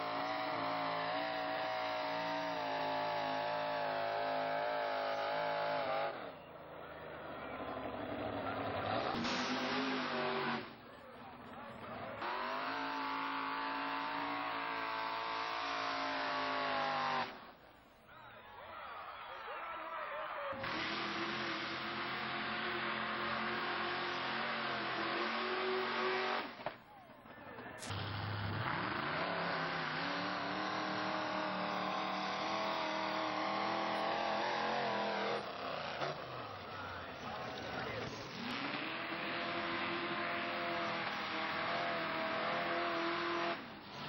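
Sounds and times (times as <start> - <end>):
truck engine revving high: 0.0 - 6.4, 7.1 - 10.9, 11.8 - 17.5, 20.5 - 26.6, 27.8 - 44.0.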